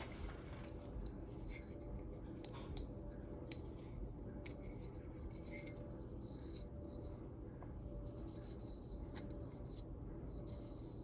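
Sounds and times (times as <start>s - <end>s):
steady low background hum: 0.0s - 11.0s.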